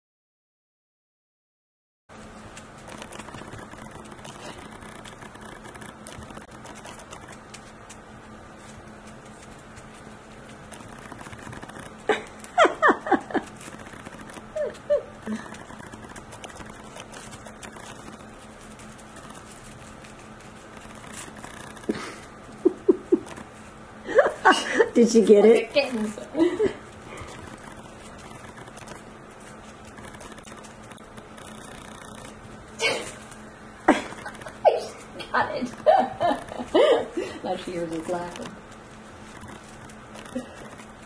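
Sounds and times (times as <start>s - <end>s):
puppy chewing toy rustling: 2.2s - 12.6s, 13.3s - 23.8s, 25.0s - 35.2s, 37.4s - 41.0s.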